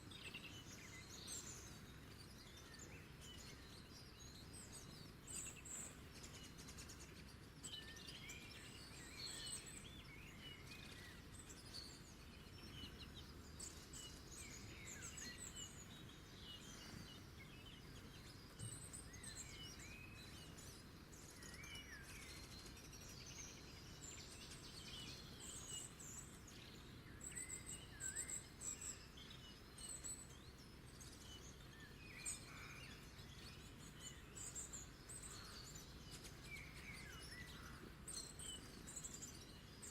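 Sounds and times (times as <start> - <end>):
faint songbirds chirping: 0.0 - 39.9
soft low background hiss: 0.0 - 39.9.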